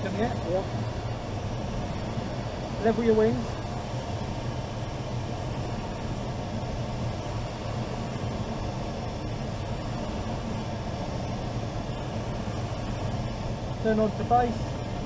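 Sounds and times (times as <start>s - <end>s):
air rushing over canopy: 0.0s - 15.0s
constant low drone: 0.0s - 15.0s.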